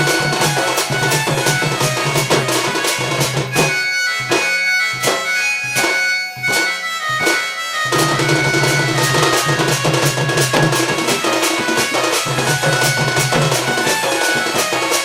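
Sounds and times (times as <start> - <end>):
reedy folk melody: 0.0 - 15.0
sharp drum strokes: 0.0 - 15.0.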